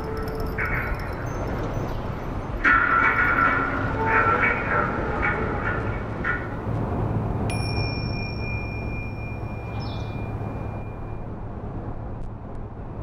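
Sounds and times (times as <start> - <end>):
struck metallic tone ringing: 0.0 - 6.7, 7.5 - 11.4
vehicle driving rumble: 0.0 - 12.9.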